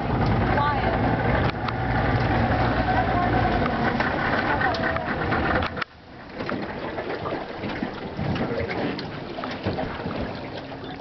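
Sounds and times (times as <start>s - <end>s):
river water lapping: 0.0s - 11.0s
small splashes and drips: 1.4s - 11.0s.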